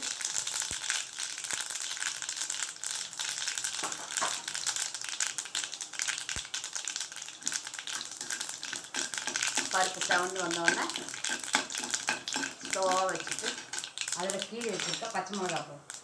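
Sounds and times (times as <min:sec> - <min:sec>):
seeds sizzling and popping in oil: 0:00.0 - 0:16.0.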